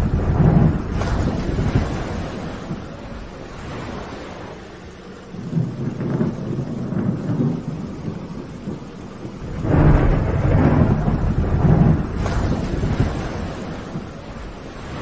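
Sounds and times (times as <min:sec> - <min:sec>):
thunderclap: 0:00.0 - 0:04.3, 0:05.3 - 0:15.0
steady rain: 0:00.0 - 0:15.0
thunder rumbling: 0:00.0 - 0:15.0.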